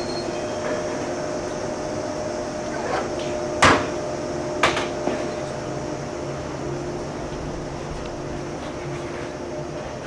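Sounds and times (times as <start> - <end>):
train equipment humming: 0.0 - 10.0.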